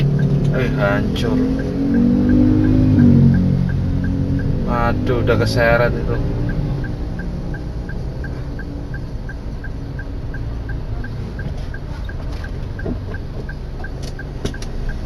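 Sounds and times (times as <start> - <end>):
light regular ticking: 0.0 - 15.0
street traffic rumble: 0.0 - 15.0.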